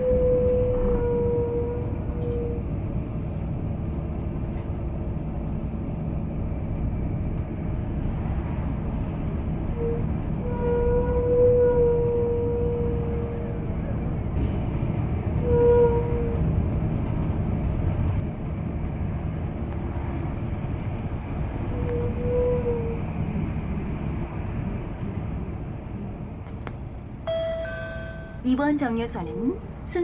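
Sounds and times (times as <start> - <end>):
moving vehicle rumble: 0.0 - 30.0.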